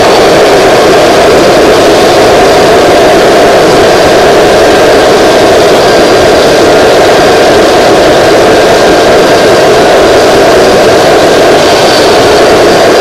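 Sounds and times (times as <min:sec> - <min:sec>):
gas turbine roaring: 0:00.0 - 0:13.0
high turbine whine: 0:00.0 - 0:13.0.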